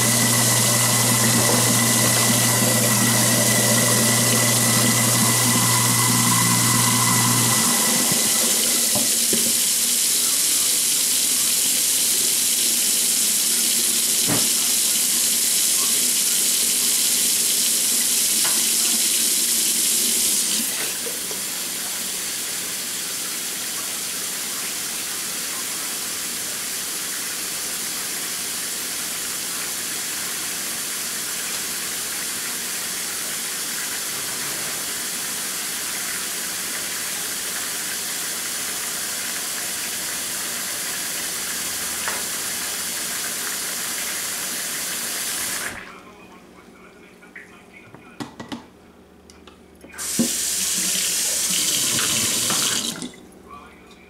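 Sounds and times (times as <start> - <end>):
faucet running into sink: 0.0 - 46.0, 50.0 - 53.2.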